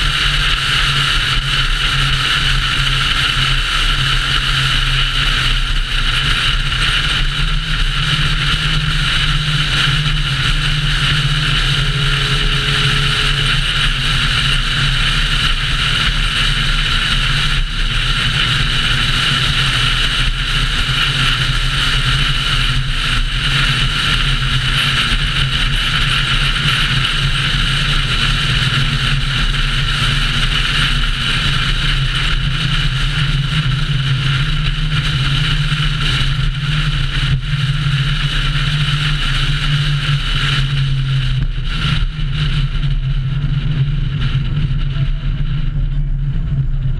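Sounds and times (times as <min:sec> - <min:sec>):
car engine and road noise: 0:00.0 - 0:46.9
wind rush on microphone: 0:00.0 - 0:46.9.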